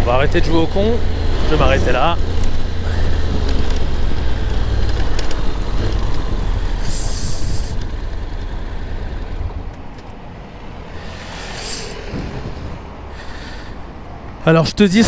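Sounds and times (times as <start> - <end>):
motorcycle engine: 0.0 - 14.4
wind and road rumble: 0.0 - 15.0.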